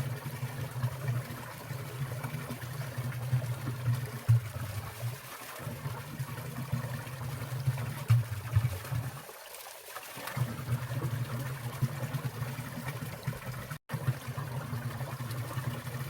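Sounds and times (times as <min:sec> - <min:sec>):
stream trickling and dripping: 0:00.0 - 0:16.0
water splashes: 0:00.0 - 0:16.0.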